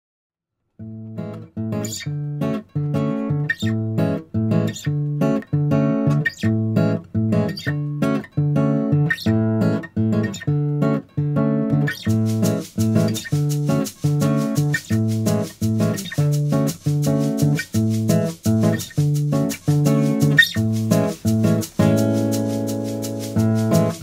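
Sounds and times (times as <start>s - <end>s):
strummed guitar chords: 1.1s - 24.0s.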